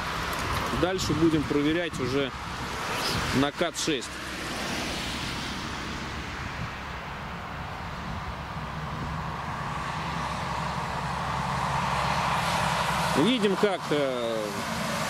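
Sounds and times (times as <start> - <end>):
rushing background noise: 0.0 - 15.0.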